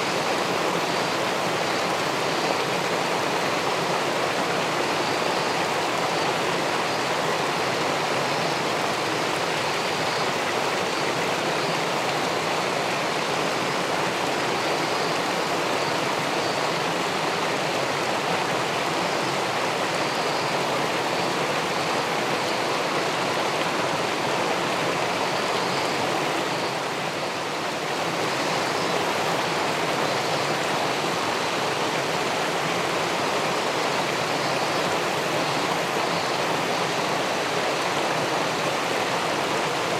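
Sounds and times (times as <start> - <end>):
river water pouring over weir: 0.0 - 39.9.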